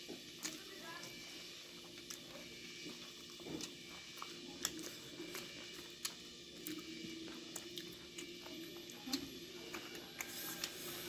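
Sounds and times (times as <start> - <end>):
faint steady hum: 0.0 - 11.0
soft chewing: 0.0 - 11.0.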